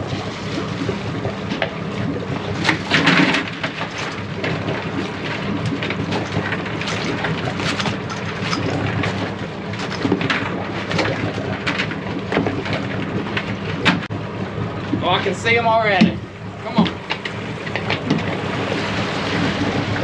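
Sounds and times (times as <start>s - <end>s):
boat engine running: 0.0s - 20.0s
water splashing: 0.0s - 20.0s.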